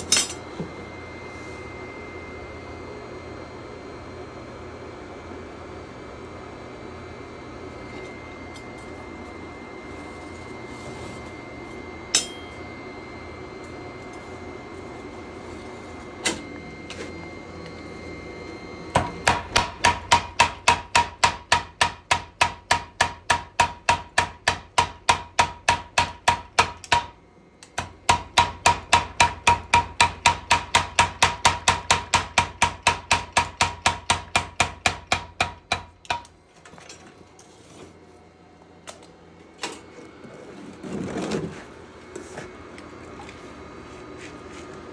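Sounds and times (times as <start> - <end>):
workshop hum: 0.0 - 44.9.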